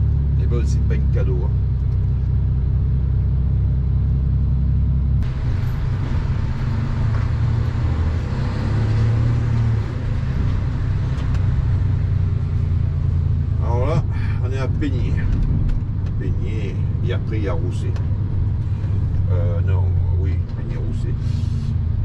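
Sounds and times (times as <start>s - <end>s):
lorry engine droning: 0.0s - 22.0s.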